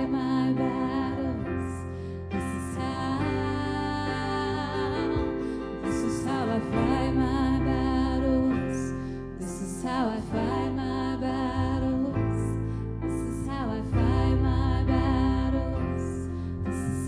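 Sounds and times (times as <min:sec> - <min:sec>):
keyboard chords: 0:00.0 - 0:17.0
low bass line: 0:00.0 - 0:17.0
person singing: 0:00.0 - 0:17.0.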